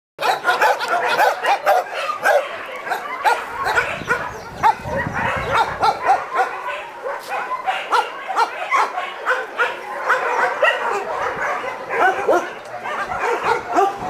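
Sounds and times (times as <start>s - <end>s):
large dogs barking: 0.2s - 14.0s.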